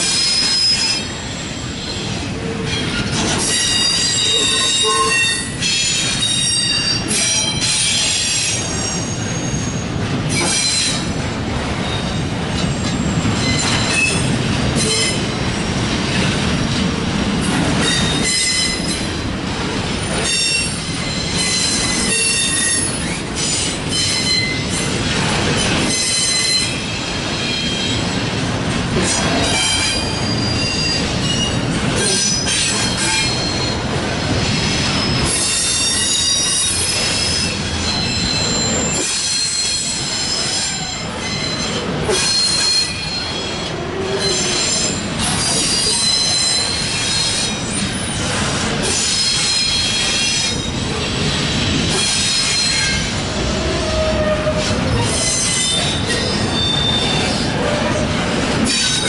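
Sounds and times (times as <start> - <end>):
train wheels rumbling on rail: 0.0 - 59.0
high wheel squeal: 0.1 - 11.0, 11.8 - 15.2, 20.3 - 25.0, 29.4 - 58.0.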